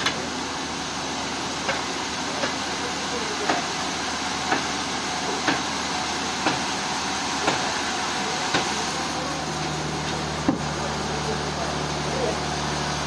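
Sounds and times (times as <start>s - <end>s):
sawmill machinery running: 0.0s - 13.0s.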